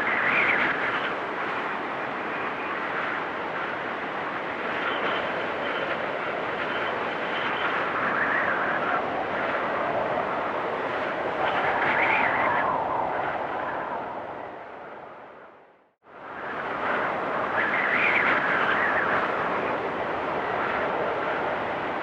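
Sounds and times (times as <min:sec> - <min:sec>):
faint high wind whistle: 0:00.0 - 0:22.0
gusty wind rushing: 0:00.0 - 0:22.0.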